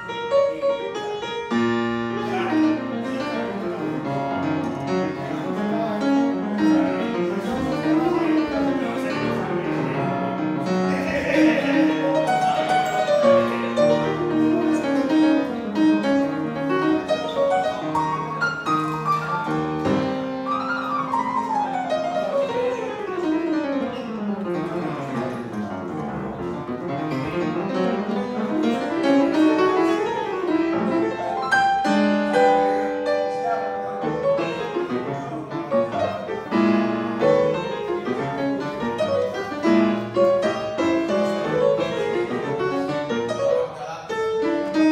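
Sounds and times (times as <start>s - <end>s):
solo grand piano playing: 0.0s - 44.9s.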